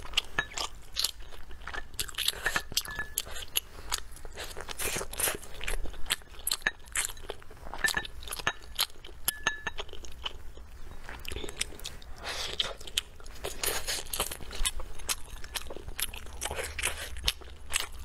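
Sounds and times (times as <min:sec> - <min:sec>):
person chewing crisp food: 0:00.0 - 0:18.0.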